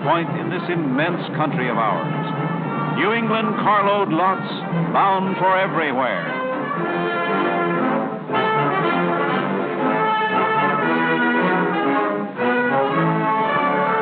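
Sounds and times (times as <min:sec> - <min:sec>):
orchestral brass chords: 0:00.0 - 0:14.0.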